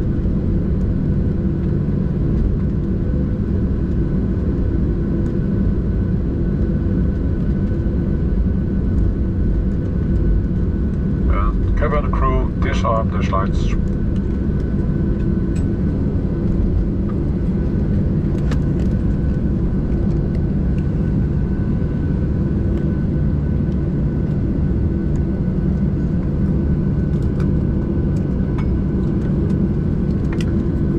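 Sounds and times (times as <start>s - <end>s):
airplane cabin rumble: 0.0s - 30.9s.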